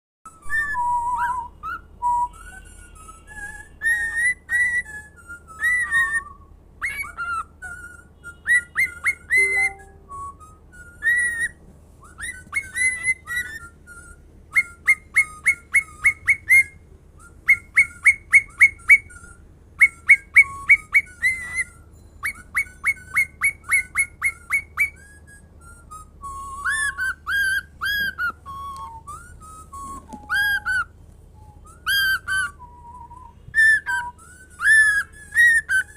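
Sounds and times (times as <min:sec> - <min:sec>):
bird whistling and chirping: 0:00.3 - 0:35.9.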